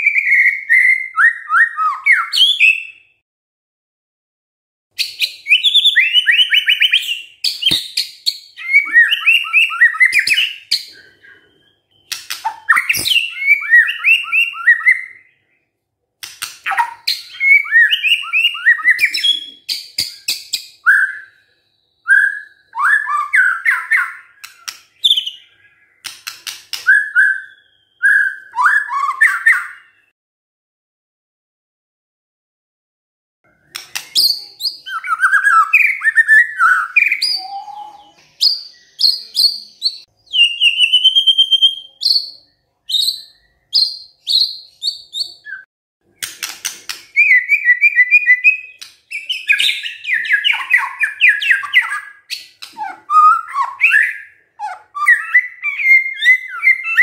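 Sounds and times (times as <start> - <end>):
songbird whistling and trilling: 0.0 - 3.2, 5.0 - 15.6, 16.4 - 30.1, 33.5 - 57.0.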